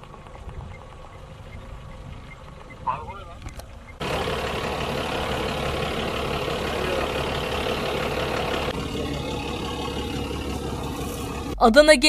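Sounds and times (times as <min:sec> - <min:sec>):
truck engine running: 0:00.0 - 0:11.7.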